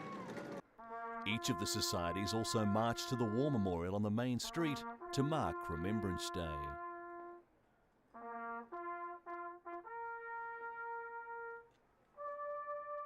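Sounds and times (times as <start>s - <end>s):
brass instrument bugle call: 0.0s - 7.4s, 8.2s - 13.0s.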